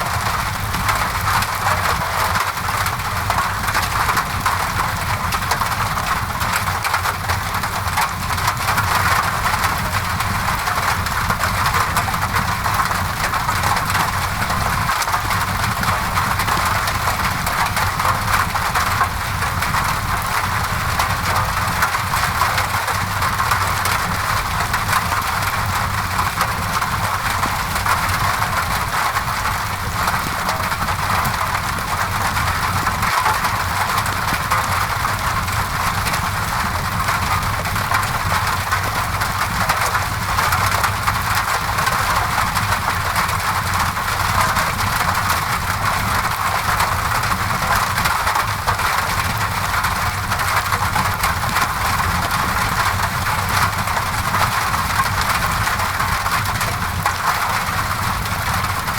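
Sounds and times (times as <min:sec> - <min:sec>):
rain against a window: 0:00.0 - 0:58.9.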